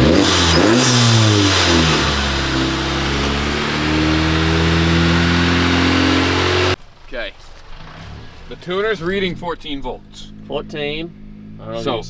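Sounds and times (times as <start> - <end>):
car engine running at raised revs: 0.0 - 6.8, 8.0 - 12.0.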